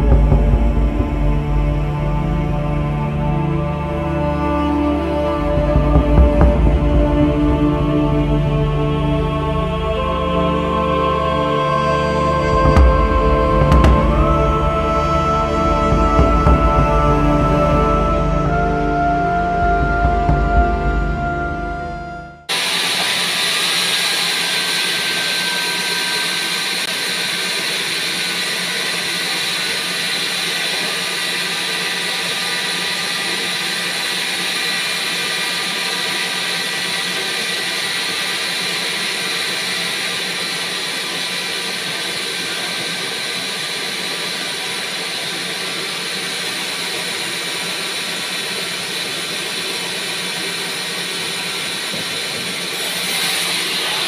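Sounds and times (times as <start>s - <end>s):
band saw running: 0.0s - 54.0s.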